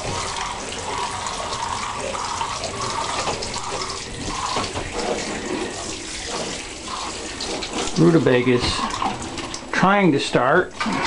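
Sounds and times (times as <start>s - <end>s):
water running and splashing: 0.0s - 11.0s.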